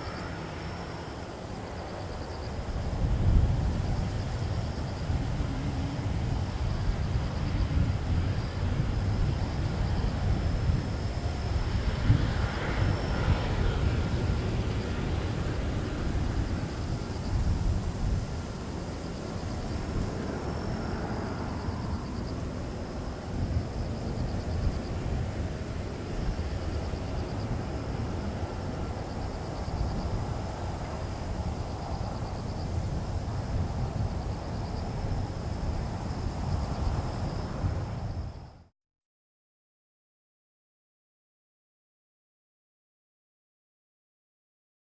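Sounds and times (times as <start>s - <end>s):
jet engines low rumble: 0.0s - 38.7s.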